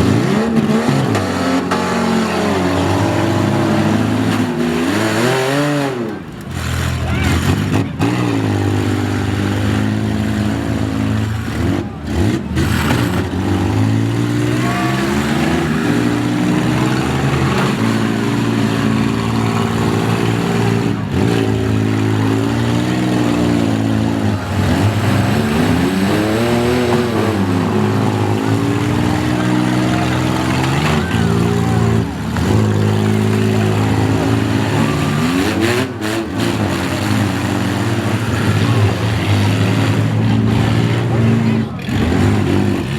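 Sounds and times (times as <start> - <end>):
car engines revving: 0.0 - 42.9.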